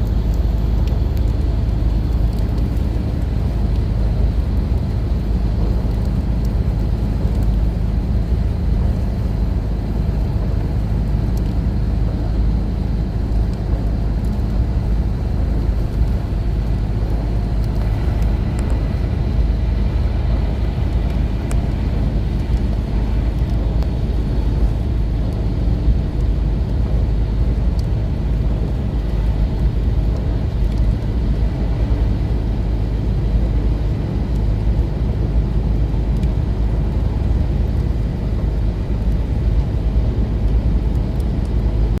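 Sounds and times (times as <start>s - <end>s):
road vehicle rumble: 0.0s - 42.0s.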